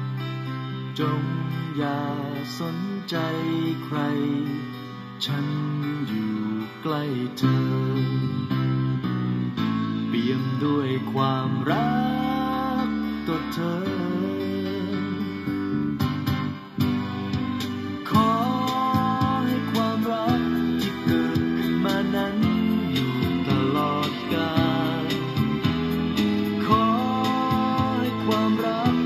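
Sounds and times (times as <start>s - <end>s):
guitar music with singing: 0.0s - 29.0s.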